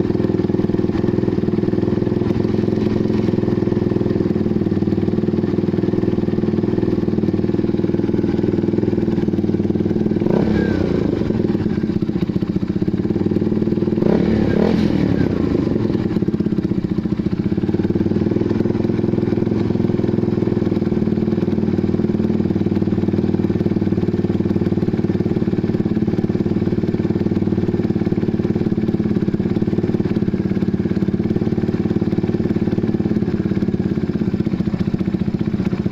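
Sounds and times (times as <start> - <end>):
motorcycle engine idling: 0.0 - 35.9
motorcycle throttle blips: 0.0 - 35.9.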